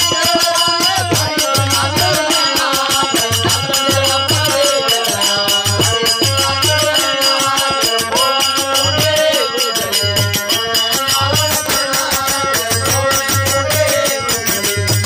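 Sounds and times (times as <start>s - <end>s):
harmonium folk melody: 0.0s - 15.0s
man singing: 0.0s - 15.0s
steady drum beat: 0.0s - 15.0s.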